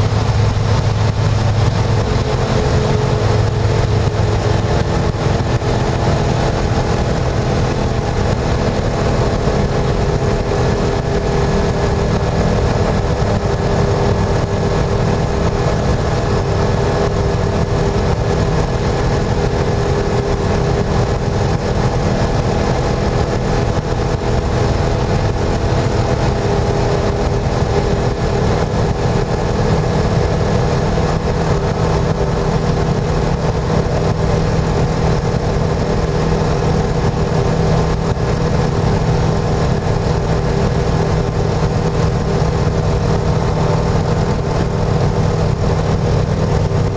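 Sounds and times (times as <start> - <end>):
microlight engine and propeller: 0.0 - 46.9
rush of wind noise: 0.0 - 46.9.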